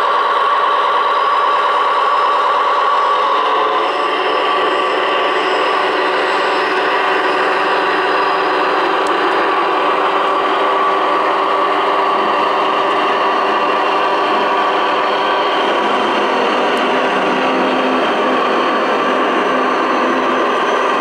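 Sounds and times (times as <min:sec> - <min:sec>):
model train mechanical hum: 0:00.0 - 0:21.0.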